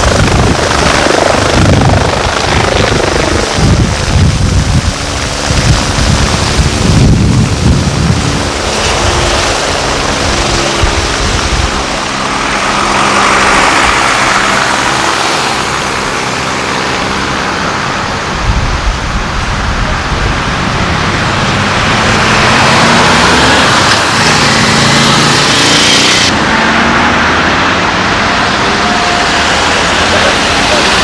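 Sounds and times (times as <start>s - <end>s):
deep vehicle engine rumble: 0.0s - 31.0s
helicopter rotor and turbine: 0.0s - 31.0s
wind buffeting microphone: 0.0s - 31.0s.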